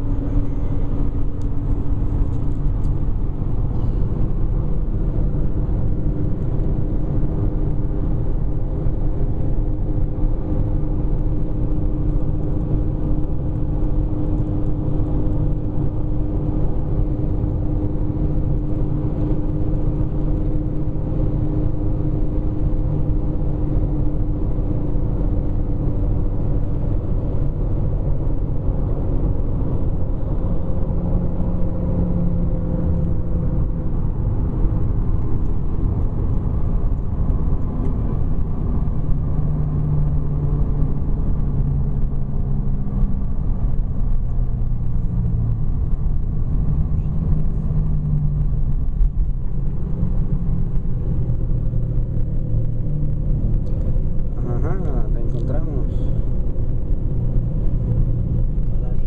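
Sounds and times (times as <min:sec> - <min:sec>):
car cabin road noise: 0:00.0 - 0:59.0
low hum: 0:00.0 - 0:59.0.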